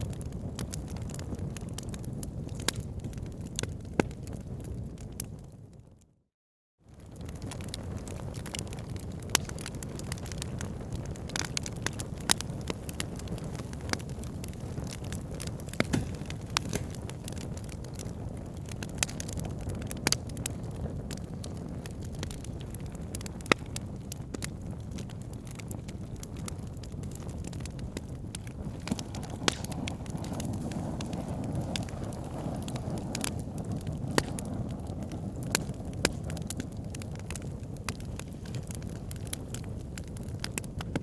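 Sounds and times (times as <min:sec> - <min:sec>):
fire crackling and popping: 0:00.0 - 0:06.0, 0:06.9 - 0:41.0.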